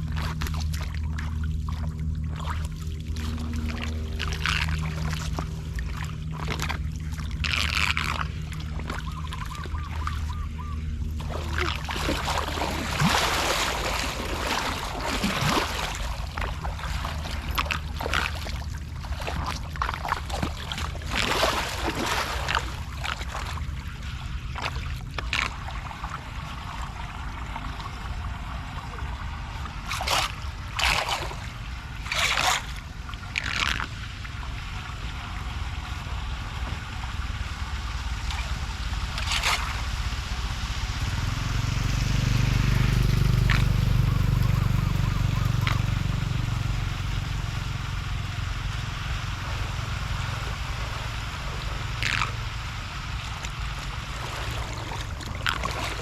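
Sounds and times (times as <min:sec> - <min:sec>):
floodwater flowing: 0:00.0 - 0:56.0
steady low rumble: 0:00.0 - 0:56.0
water splashes: 0:00.0 - 0:56.0.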